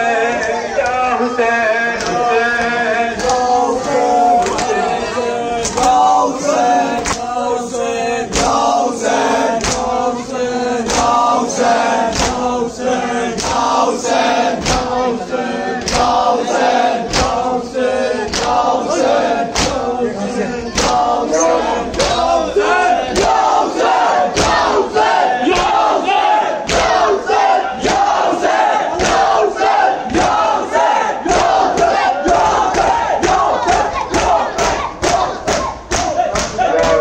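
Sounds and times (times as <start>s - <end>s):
men chanting in unison: 0.0s - 37.0s.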